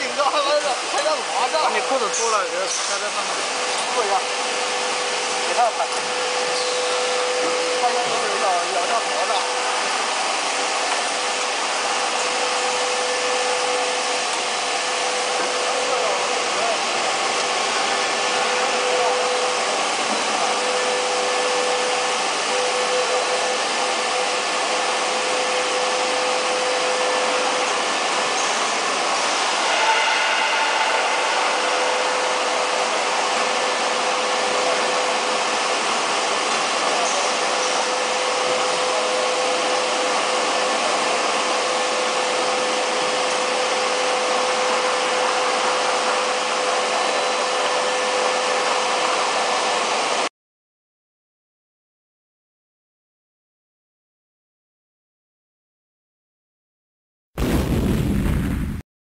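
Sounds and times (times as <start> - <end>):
factory machinery din: 0.0 - 47.5, 57.4 - 58.8.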